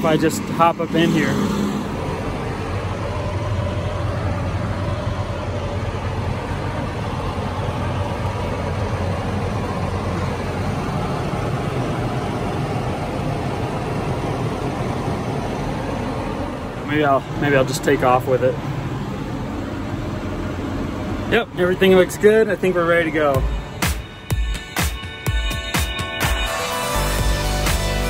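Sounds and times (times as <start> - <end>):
tractor diesel engine idling: 0.0 - 25.6.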